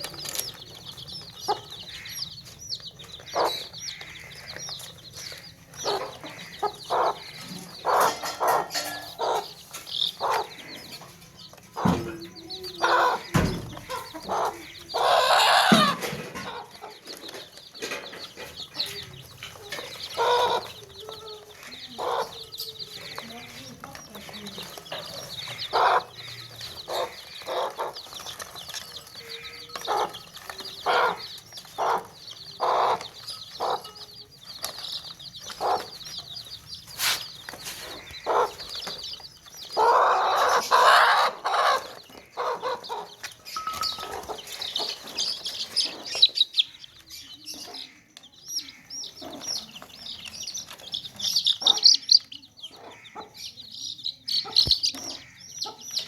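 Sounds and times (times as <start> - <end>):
baby chicks peeping: 0.0 - 56.0
chicken clucking: 0.0 - 56.0.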